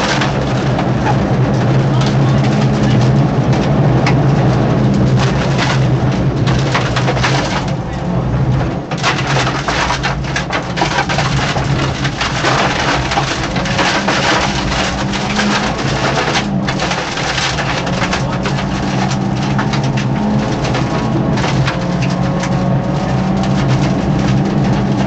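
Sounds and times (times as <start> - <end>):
gravel hitting car underbody: 0.0 - 7.8, 8.5 - 25.0
car engine running hard: 0.0 - 25.0.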